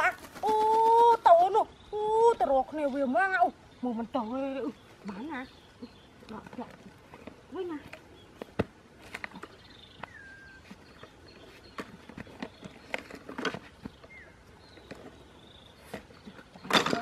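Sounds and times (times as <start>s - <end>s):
rustling in dry leaves: 0.0s - 17.0s.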